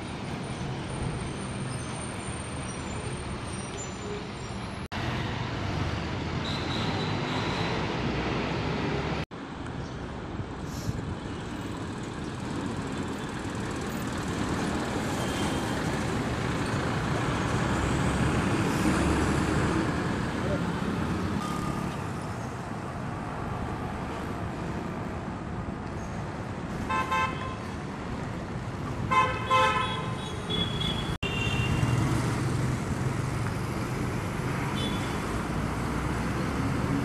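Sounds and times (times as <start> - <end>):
buses and trucks passing: 0.0 - 37.0.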